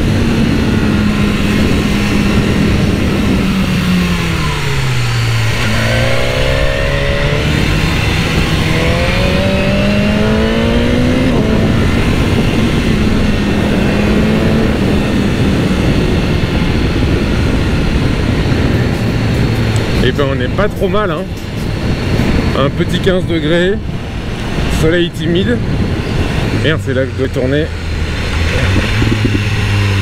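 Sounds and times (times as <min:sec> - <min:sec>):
motorcycle engine: 0:00.0 - 0:30.0
wind noise on microphone: 0:00.0 - 0:30.0.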